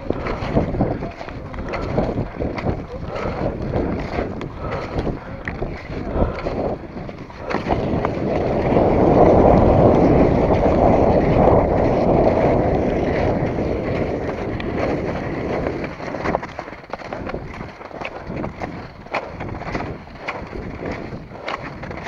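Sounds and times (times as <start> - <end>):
skis sliding over snow: 0.0 - 22.0
wind rushing on microphone: 0.0 - 22.0.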